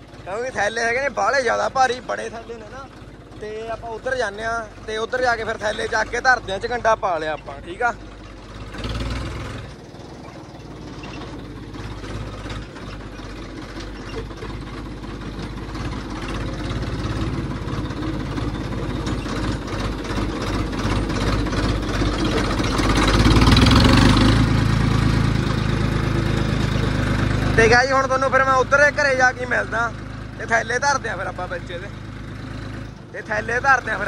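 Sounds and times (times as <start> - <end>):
tractor engine rumbling: 0.0 - 34.0.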